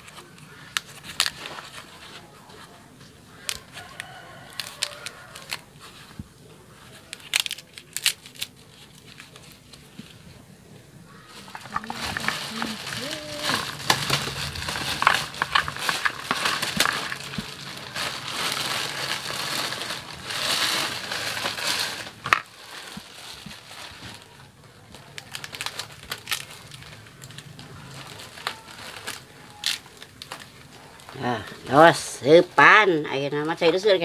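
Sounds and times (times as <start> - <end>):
banana leaf crinkling: 0.0 - 10.5, 11.1 - 34.0.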